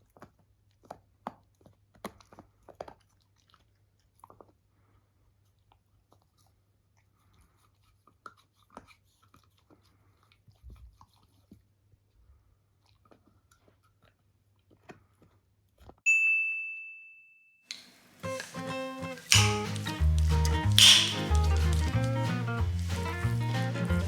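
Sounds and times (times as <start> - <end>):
chewing and crunching food: 0.0 - 16.0, 17.7 - 24.0.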